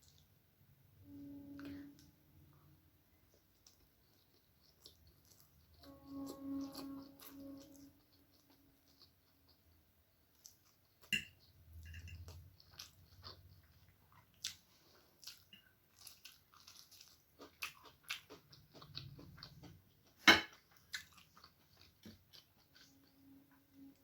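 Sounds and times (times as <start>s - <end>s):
person chewing food: 3.1s - 24.0s.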